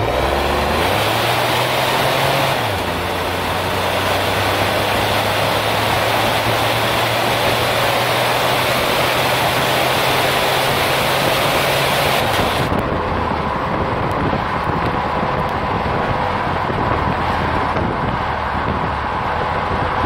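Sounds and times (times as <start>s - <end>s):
car exhaust while driving: 0.0s - 20.0s
wind and road rush: 0.0s - 20.0s.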